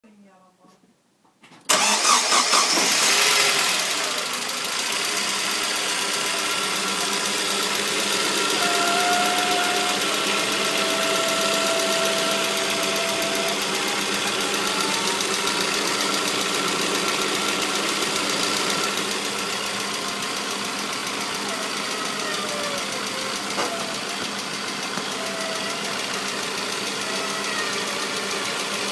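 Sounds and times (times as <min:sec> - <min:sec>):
car engine idling: 0:01.7 - 0:28.9.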